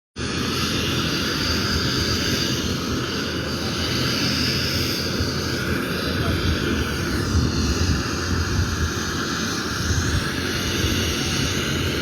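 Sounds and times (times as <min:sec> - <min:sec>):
helicopter rotor and turbine: 0:00.2 - 0:12.0.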